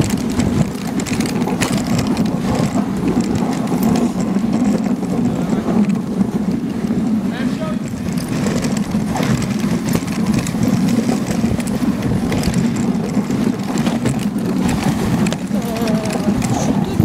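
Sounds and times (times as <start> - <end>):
sled knocks and rattles: 0.0 - 17.0
sled runners rumbling on snow: 0.0 - 17.0.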